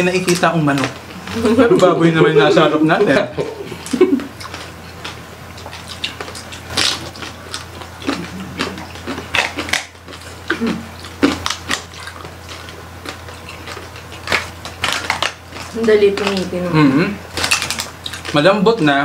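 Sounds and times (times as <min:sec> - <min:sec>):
chewing and crunching crispy skin: 0:00.0 - 0:01.9, 0:03.7 - 0:19.0.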